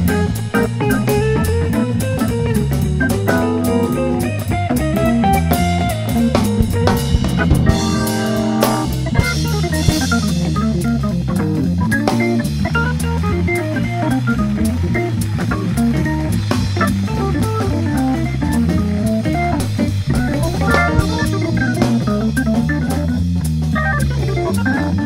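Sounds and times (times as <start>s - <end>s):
bass: 0.0s - 25.0s
drum kit with cymbals: 0.0s - 25.0s
electric guitar: 0.0s - 25.0s
organ chords: 0.0s - 25.0s.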